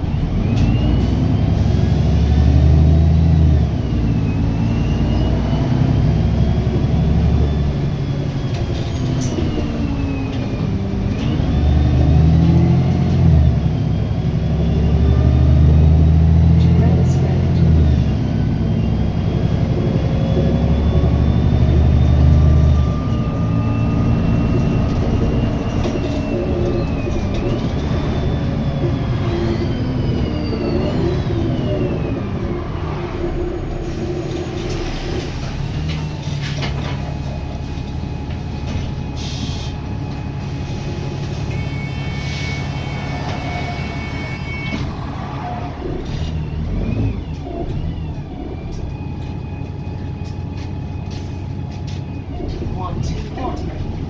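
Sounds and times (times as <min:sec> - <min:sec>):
bus engine rumble: 0:00.0 - 0:54.0
bus whine rising and falling: 0:00.0 - 0:54.0.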